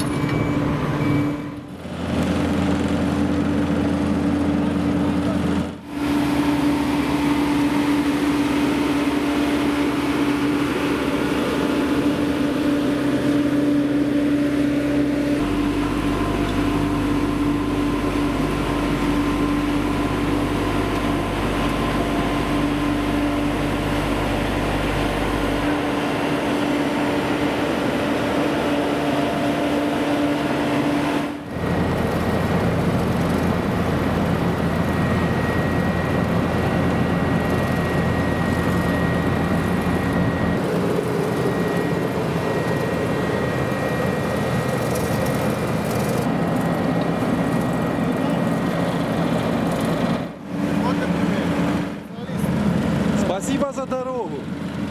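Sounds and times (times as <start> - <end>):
vehicle engine and road noise: 0.0 - 53.4.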